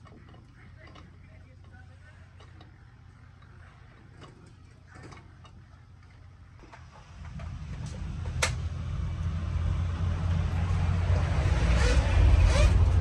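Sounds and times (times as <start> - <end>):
machine motor rumbling: 0.0 - 13.0.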